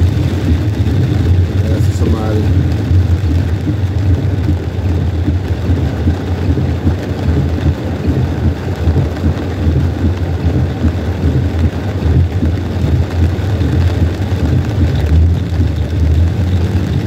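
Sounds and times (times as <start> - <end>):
car engine and tyres rumble: 0.0 - 17.0
rain hiss: 0.0 - 17.0.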